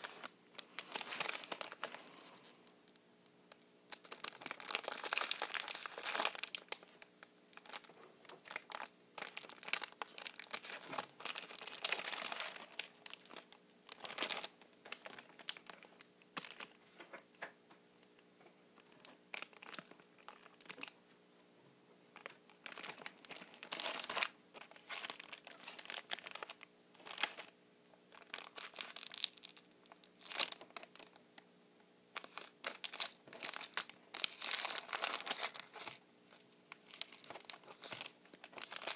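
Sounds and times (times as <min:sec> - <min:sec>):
plastic wrapping crinkling and tearing: 0:00.0 - 0:02.2, 0:03.9 - 0:16.8, 0:18.8 - 0:21.0, 0:22.2 - 0:31.2, 0:32.2 - 0:38.9.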